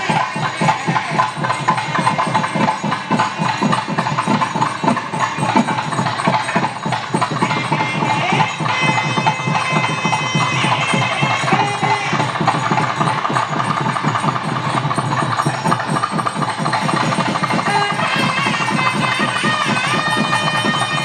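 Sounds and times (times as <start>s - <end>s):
double reed pipe melody: 0.0s - 21.0s
fast drumming: 0.0s - 21.0s.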